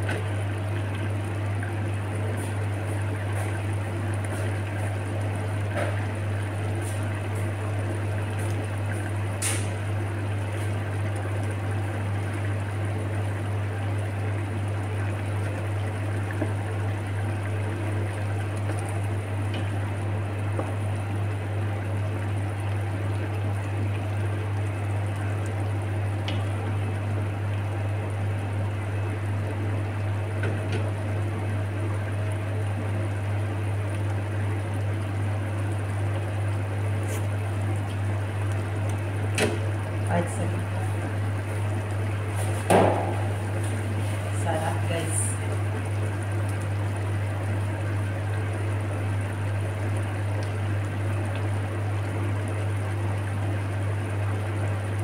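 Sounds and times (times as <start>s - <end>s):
pot bubbling and hissing: 0.0s - 55.0s.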